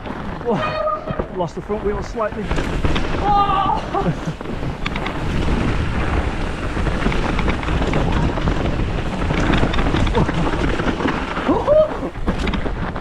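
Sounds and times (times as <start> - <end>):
bike rattles and knocks: 0.0 - 13.0
tyre rumble: 0.0 - 13.0
wind buffeting microphone: 0.0 - 13.0.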